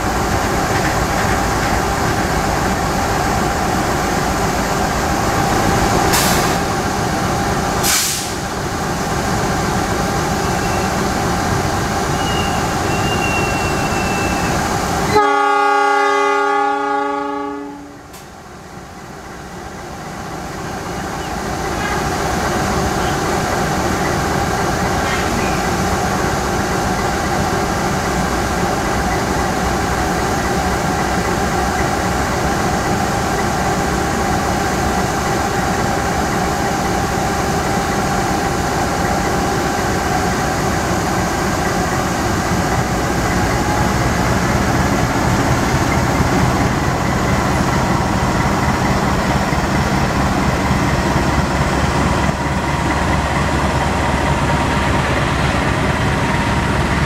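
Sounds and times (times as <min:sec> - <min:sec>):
locomotive engine running: 0:00.0 - 0:15.8, 0:18.4 - 0:57.0.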